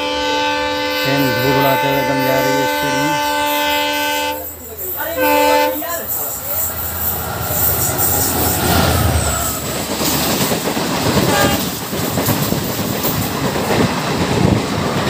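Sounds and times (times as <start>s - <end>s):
train wheels clattering past: 1.2s - 15.0s.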